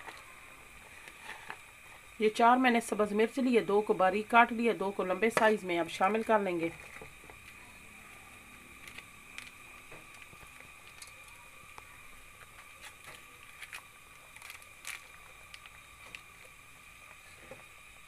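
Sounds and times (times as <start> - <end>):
faint high-pitched hum: 0.0 - 18.0.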